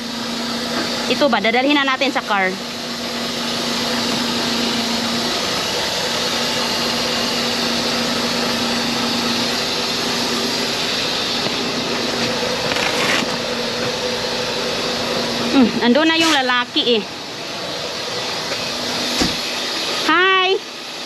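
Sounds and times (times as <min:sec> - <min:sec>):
truck engine droning: 0:00.0 - 0:20.4.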